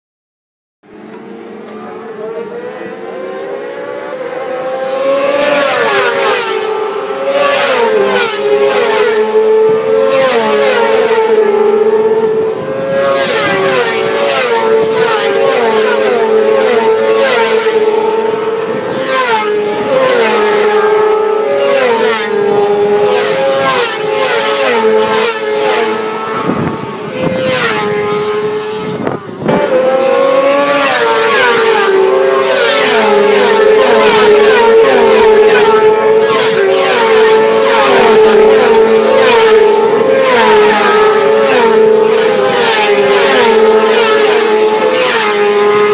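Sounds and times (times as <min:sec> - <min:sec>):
racing motorcycle engines revving: 0:00.9 - 0:45.9.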